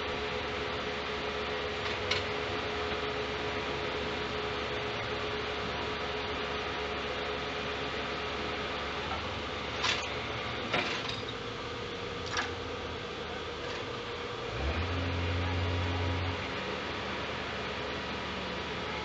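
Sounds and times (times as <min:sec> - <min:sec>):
truck running: 0:00.0 - 0:19.0.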